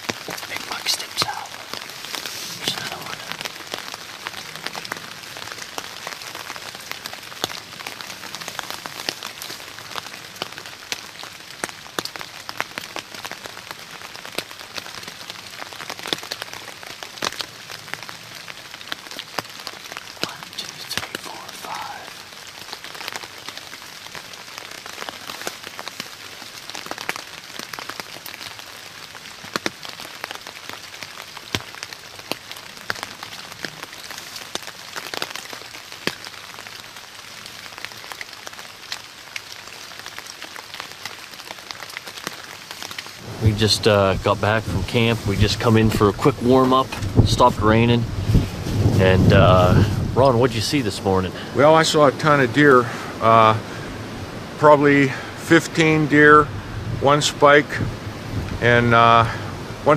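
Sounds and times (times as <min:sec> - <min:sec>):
sharp raindrop ticks: 0:00.0 - 0:53.9
steady rain falling: 0:00.0 - 0:59.9.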